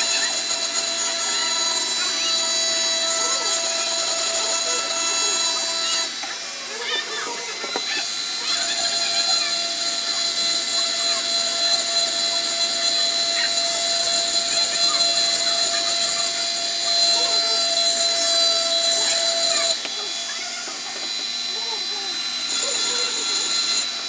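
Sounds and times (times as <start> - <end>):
bit grinding on glass: 0.0 - 21.4, 22.4 - 24.0
engraving pen whining: 0.0 - 24.0.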